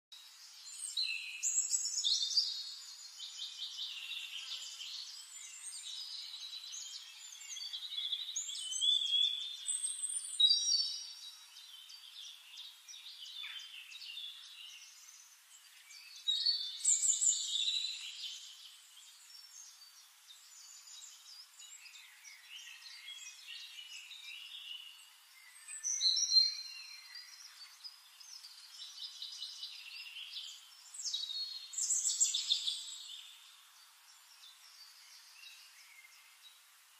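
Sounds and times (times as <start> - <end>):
songbird chirps and trills: 0.1 - 36.9.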